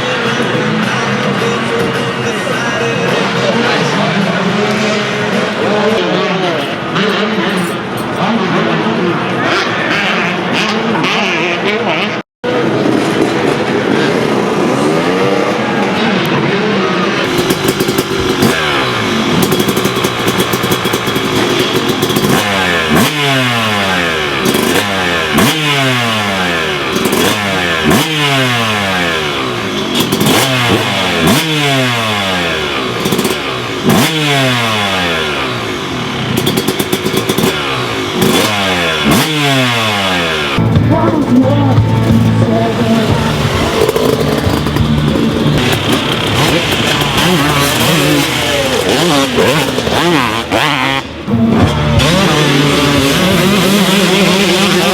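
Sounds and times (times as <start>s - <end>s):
motorbike engine revving: 0.0s - 54.9s.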